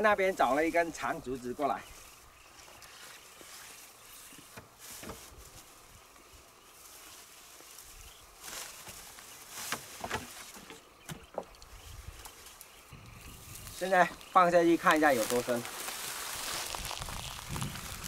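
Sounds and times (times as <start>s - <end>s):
footsteps through dry grass: 0.0s - 10.7s, 11.7s - 18.0s.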